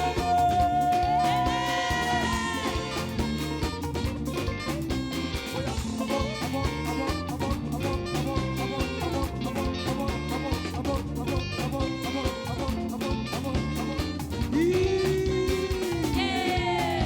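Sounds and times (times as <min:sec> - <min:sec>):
live band playing upbeat music: 0:00.0 - 0:17.0.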